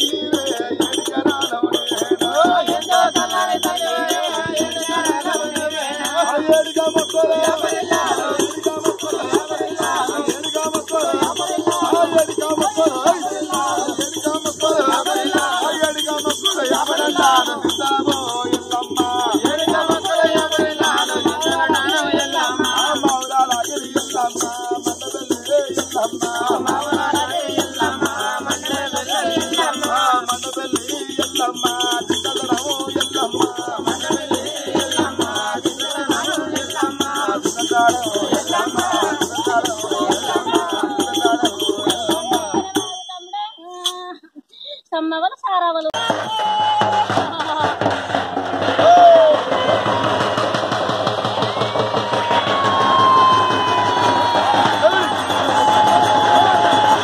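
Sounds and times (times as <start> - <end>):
hand drum beating: 0.0 - 44.1, 45.9 - 57.0
men singing devotional folk song: 0.0 - 44.8, 53.0 - 57.0
ankle bells jingling: 0.0 - 45.0, 52.2 - 57.0.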